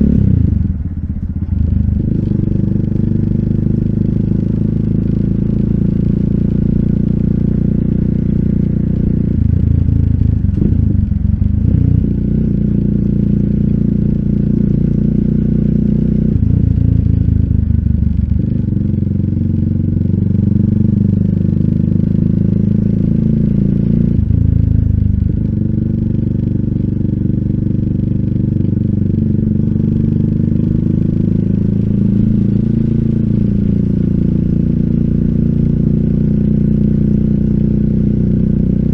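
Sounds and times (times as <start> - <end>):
motorcycle engine exhaust note: 0.0 - 38.9.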